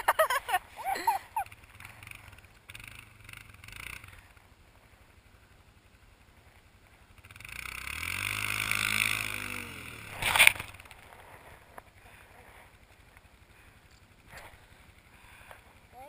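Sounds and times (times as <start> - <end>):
small vehicle engine: 0.1 - 16.0.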